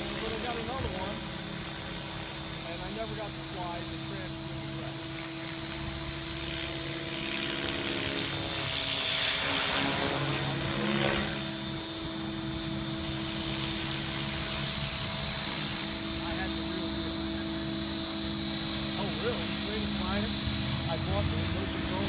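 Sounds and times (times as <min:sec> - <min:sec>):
remote-control helicopter flying: 0:00.0 - 0:22.0.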